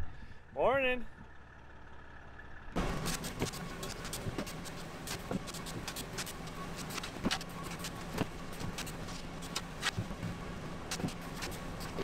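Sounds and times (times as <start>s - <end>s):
motor humming: 1.2s - 12.0s.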